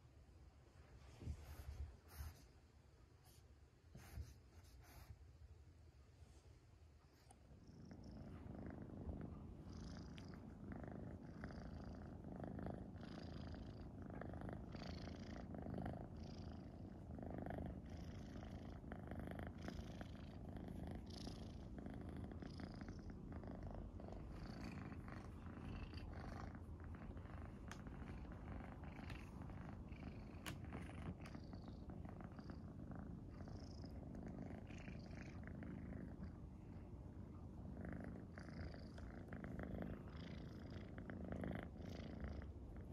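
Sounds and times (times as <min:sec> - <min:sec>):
cat purring: 0:07.0 - 0:42.9.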